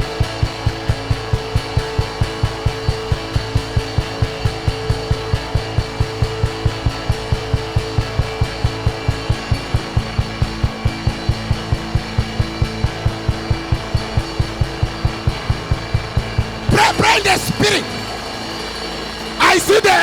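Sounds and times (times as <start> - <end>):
worship music with sustained chords: 0.0 - 20.0.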